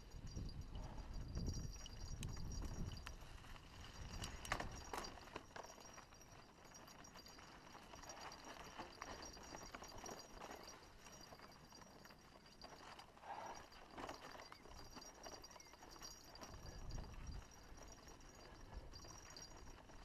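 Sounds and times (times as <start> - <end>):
bike clicks and rattles: 0.1 - 20.0.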